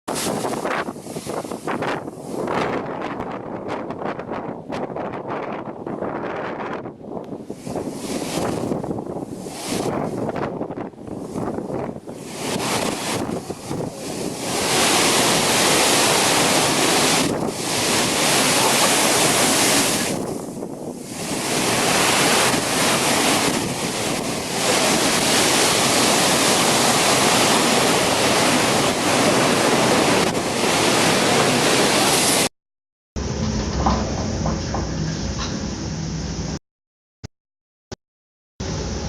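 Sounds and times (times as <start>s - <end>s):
strong wind buffeting microphone: 0.1s - 32.5s.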